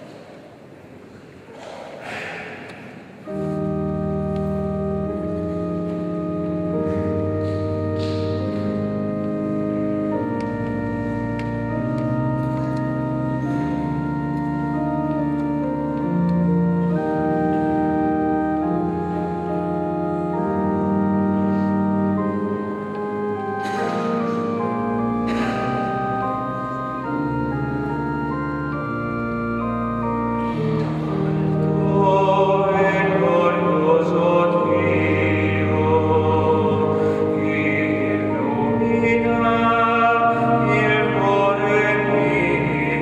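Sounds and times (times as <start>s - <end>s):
organ playing sustained chords: 2.3s - 43.0s.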